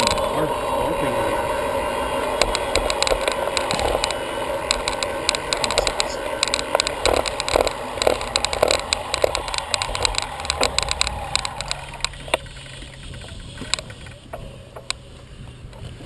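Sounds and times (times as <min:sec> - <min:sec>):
bicycle rattling and clicking: 0:00.0 - 0:16.0
wind and road noise: 0:00.0 - 0:16.0.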